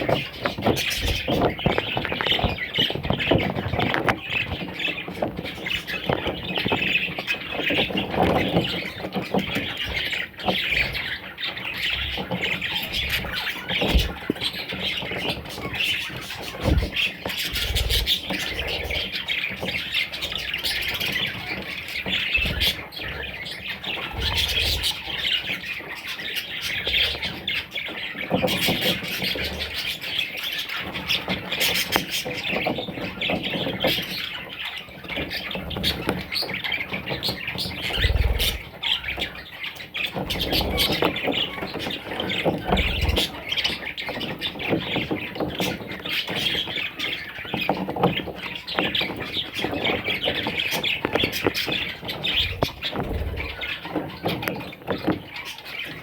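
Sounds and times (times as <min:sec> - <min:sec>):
budgerigars chattering and squawking: 0:00.0 - 0:56.0.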